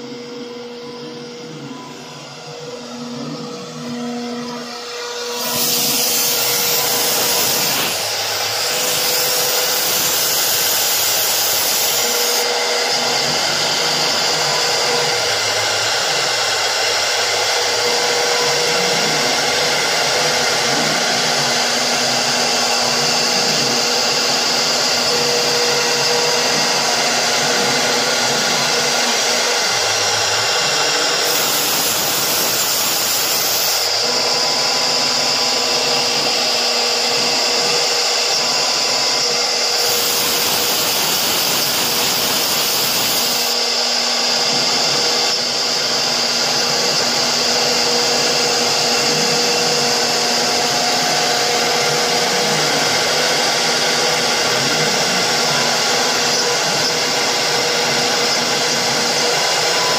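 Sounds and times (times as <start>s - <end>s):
router bit cutting fibreboard: 0.0s - 59.9s
router spindle high whine: 0.0s - 59.9s.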